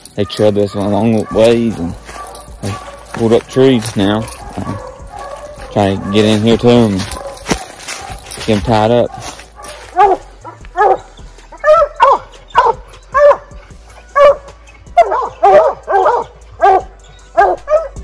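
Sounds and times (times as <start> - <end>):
hounds barking: 0.0 - 18.0.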